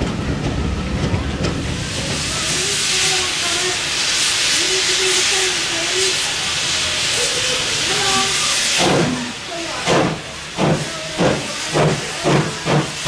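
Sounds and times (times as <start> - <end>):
faint voices: 0.6 - 13.0
steam engine hissing steam: 1.6 - 13.0.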